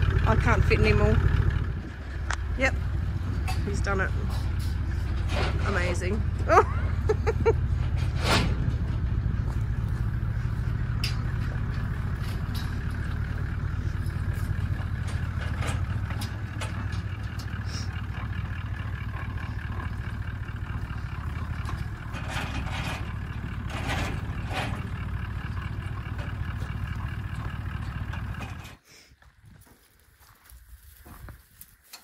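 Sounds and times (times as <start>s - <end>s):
rattles and knocks: 0.0s - 28.8s
vehicle engine rumbling: 0.0s - 32.0s.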